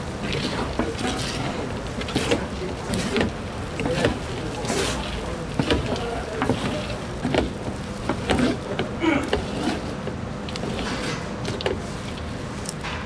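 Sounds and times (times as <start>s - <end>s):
steady low hum: 0.0s - 13.0s
paddles scraping metal pan: 0.2s - 12.2s.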